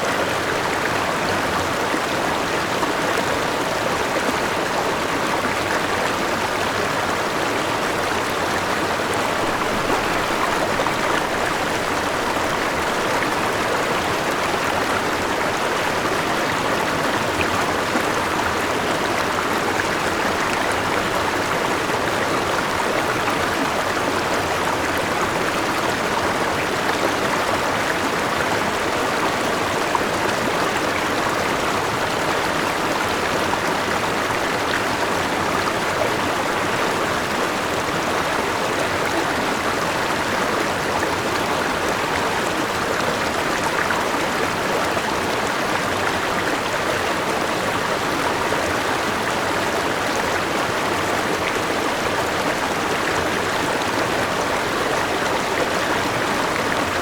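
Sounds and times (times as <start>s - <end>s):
small waterfall: 0.0s - 57.0s.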